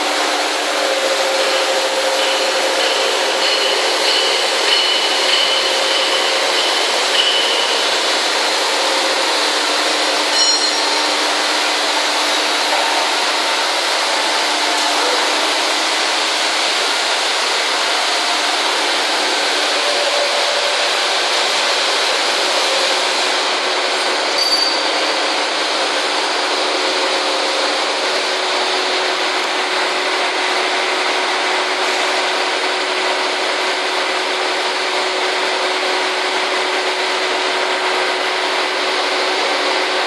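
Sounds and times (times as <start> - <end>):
milling machine cutting metal: 0.0 - 32.6.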